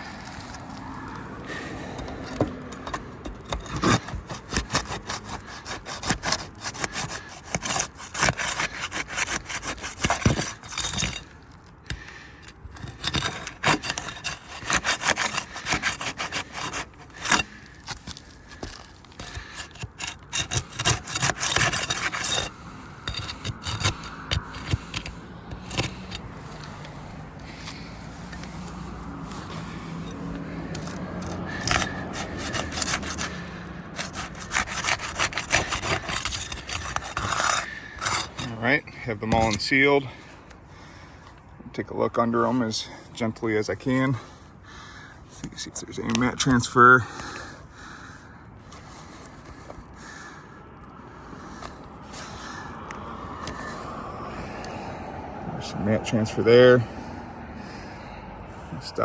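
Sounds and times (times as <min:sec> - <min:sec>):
flat bar scraping under shingles: 0:00.0 - 0:54.9, 0:55.6 - 0:59.0.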